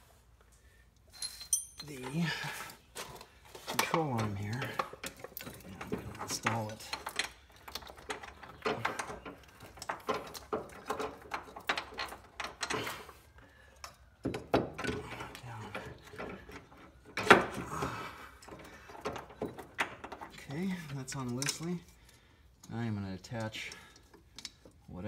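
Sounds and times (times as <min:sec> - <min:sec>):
metal clinks and knocks: 0:01.1 - 0:24.9.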